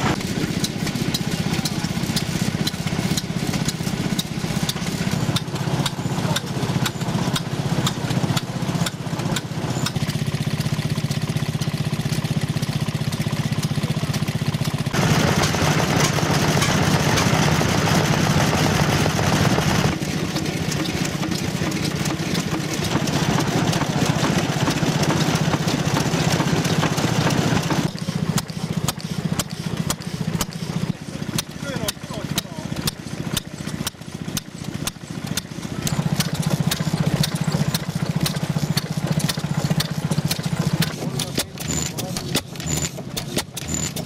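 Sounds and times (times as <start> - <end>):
stationary engines running: 0.0 - 44.0.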